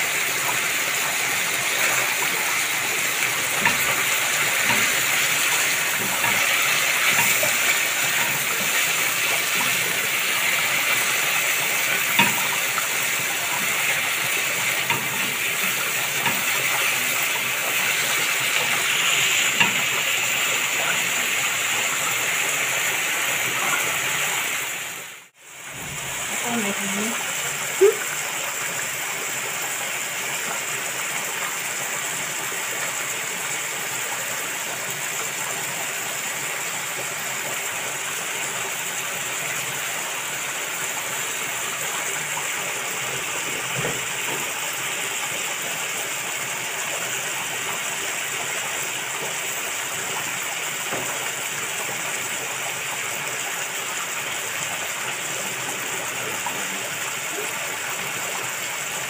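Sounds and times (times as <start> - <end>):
food sizzling in a pan: 0.0 - 32.0, 37.4 - 53.0.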